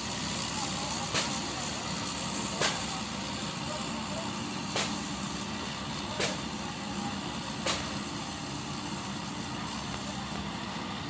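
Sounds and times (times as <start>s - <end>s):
combine harvester drone: 0.0s - 11.0s.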